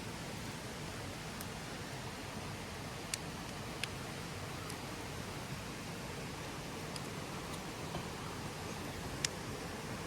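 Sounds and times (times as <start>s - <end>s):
campfire crackling: 0.0s - 10.0s
steady fire hiss: 0.0s - 10.0s.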